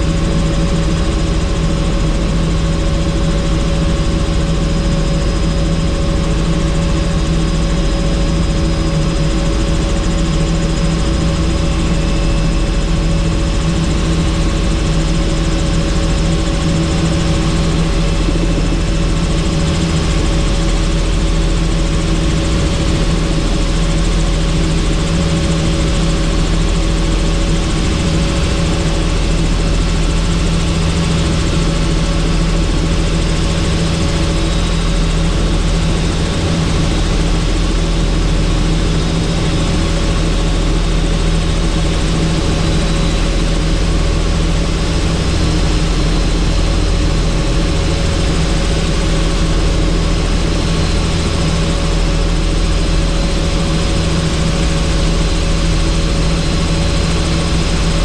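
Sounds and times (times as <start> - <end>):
helicopter drone on board: 0.0 - 58.0.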